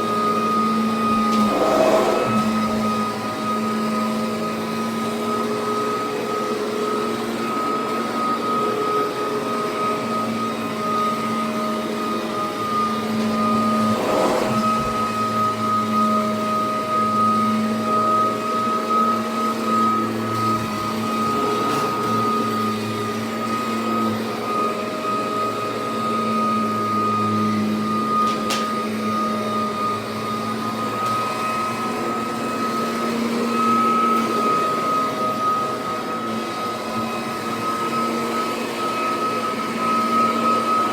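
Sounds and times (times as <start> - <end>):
vacuum cleaner motor whine: 0.0 - 40.9.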